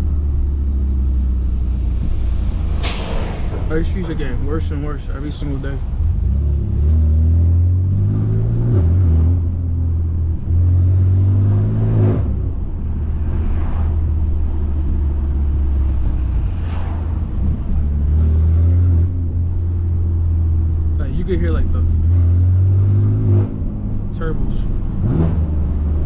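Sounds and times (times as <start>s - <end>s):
car engine accelerating and upshifting: 0.0s - 26.0s.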